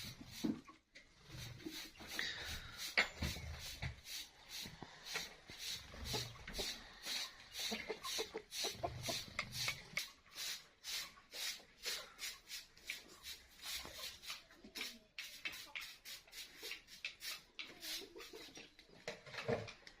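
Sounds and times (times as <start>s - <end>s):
chickens clucking: 0.0s - 20.0s
chickens scratching: 0.0s - 20.0s.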